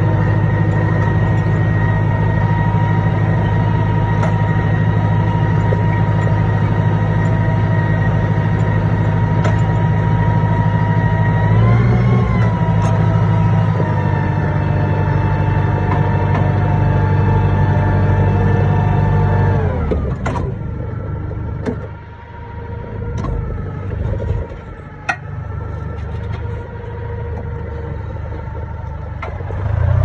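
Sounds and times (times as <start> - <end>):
tractor engine drone: 0.0 - 30.0.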